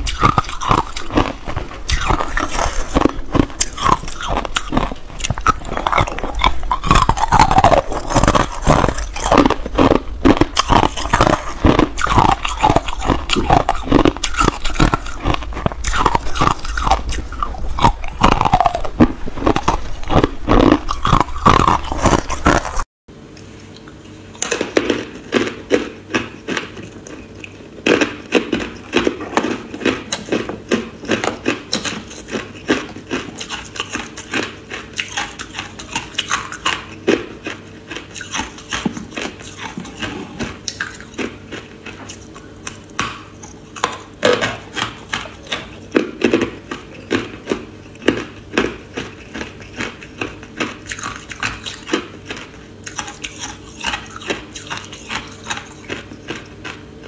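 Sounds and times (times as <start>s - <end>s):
ice crunching between teeth: 0.0s - 22.9s, 24.4s - 56.9s.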